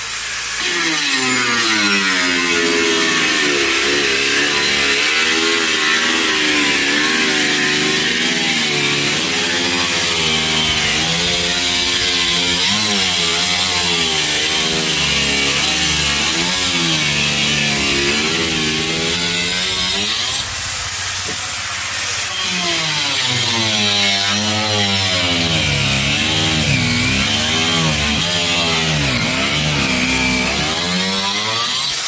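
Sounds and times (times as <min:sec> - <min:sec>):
power tool motor whining: 0:00.0 - 0:32.0.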